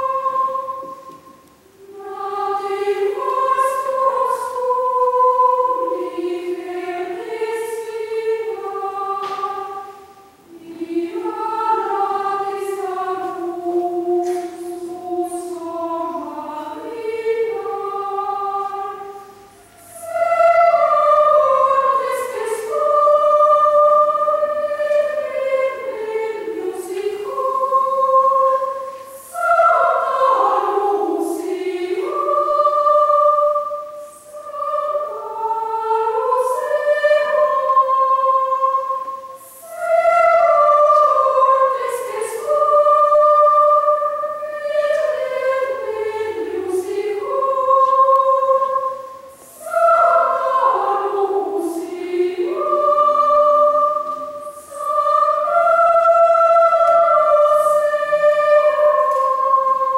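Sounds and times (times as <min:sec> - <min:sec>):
children's choir singing: 0:00.0 - 0:59.9.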